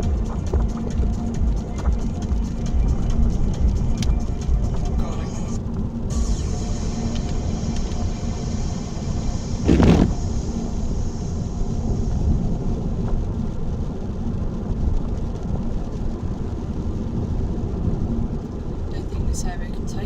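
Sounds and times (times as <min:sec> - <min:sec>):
car road noise and engine: 0:00.0 - 0:20.0
rush of noise: 0:00.0 - 0:20.0.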